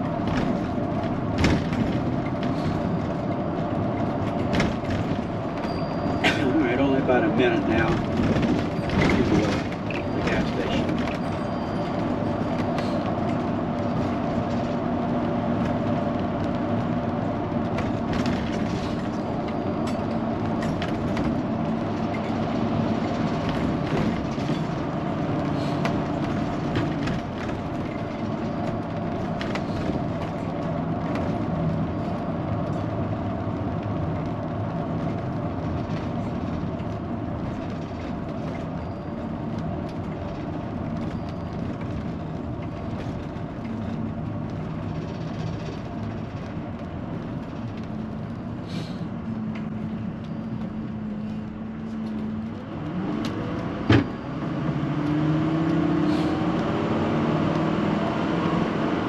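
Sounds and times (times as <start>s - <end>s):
engine and road drone: 0.0s - 59.0s.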